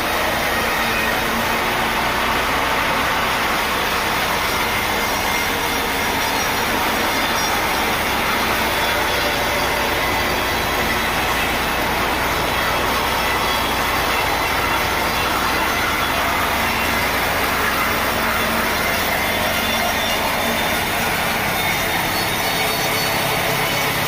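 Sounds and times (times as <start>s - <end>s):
saw cutting through a log: 0.0s - 24.0s.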